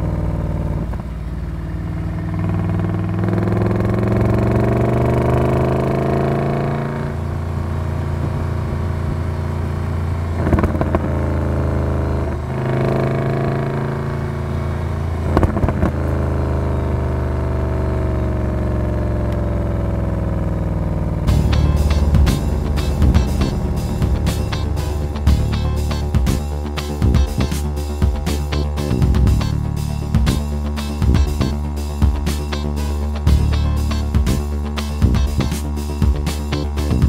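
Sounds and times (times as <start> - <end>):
car engine accelerating: 0.0 - 37.0
exhaust popping: 2.3 - 16.4, 19.3 - 37.0.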